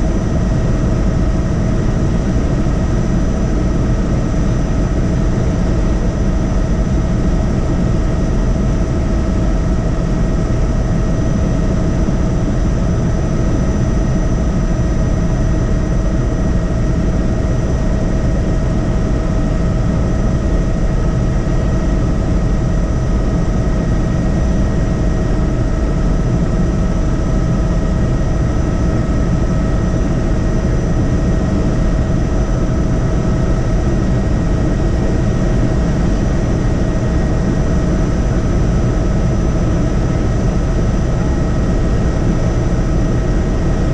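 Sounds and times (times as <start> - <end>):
constant whine: 0.0 - 43.9
helicopter engine and rotor: 0.0 - 43.9.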